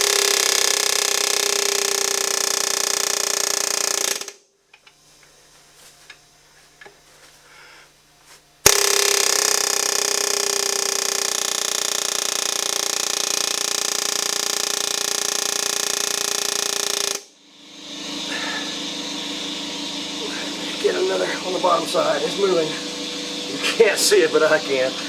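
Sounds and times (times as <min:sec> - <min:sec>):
pneumatic air hammer: 0:00.0 - 0:04.4, 0:08.7 - 0:25.0.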